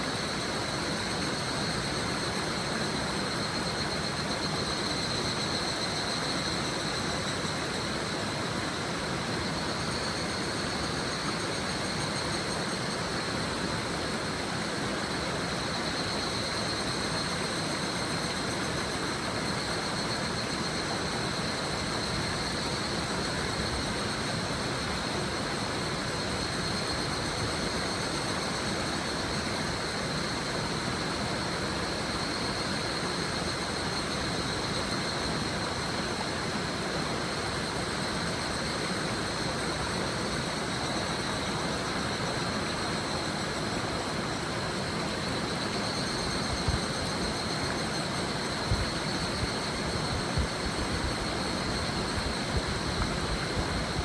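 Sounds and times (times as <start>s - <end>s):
cicadas trilling: 0.0s - 54.0s.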